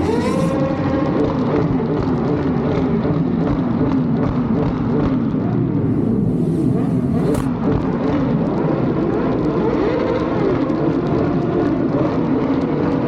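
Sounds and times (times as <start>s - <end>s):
exhaust crackles and pops: 0.0s - 13.0s
motorcycle exhaust in a tunnel: 0.0s - 13.0s.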